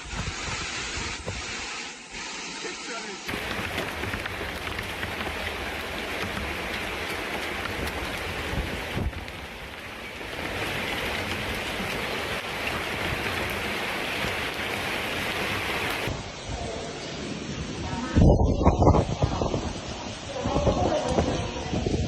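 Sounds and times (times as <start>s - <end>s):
heavy rain pouring: 0.0s - 22.0s
storm wind: 3.3s - 22.0s.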